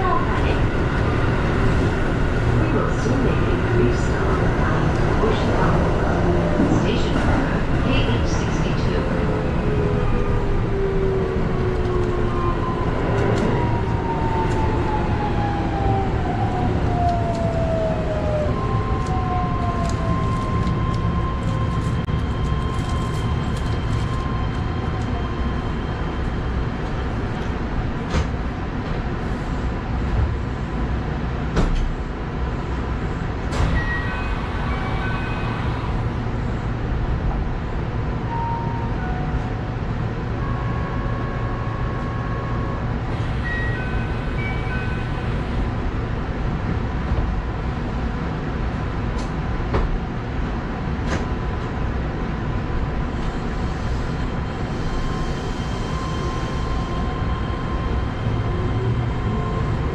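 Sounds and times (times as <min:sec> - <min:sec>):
wheels rumbling on rails: 0:00.0 - 0:59.9.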